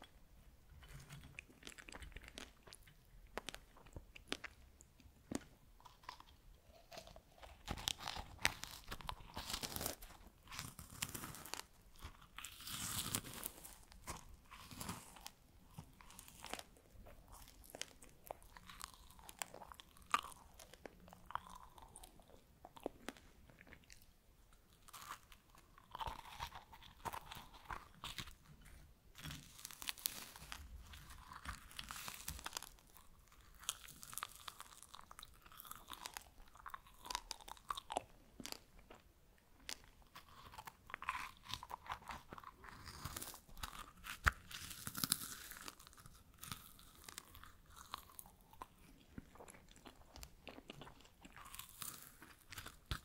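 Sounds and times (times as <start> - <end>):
crunchy chewing: 0.8 - 53.0.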